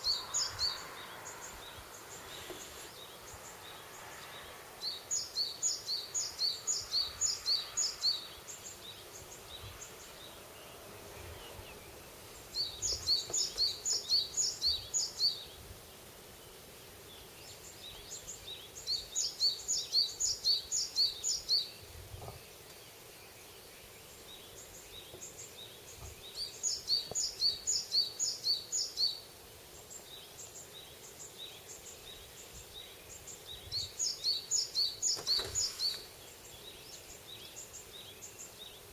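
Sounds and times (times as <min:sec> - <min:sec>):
faint background hiss: 0:00.0 - 0:38.9
songbird chirping: 0:00.0 - 0:38.9.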